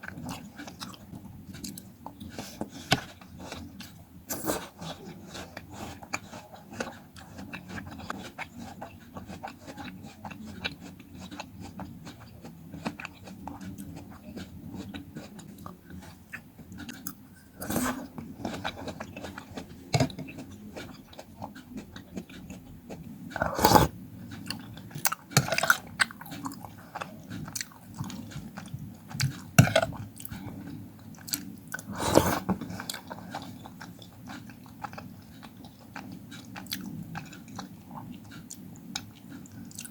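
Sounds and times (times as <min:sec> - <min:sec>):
wet chewing of fruit: 0:00.0 - 0:39.9.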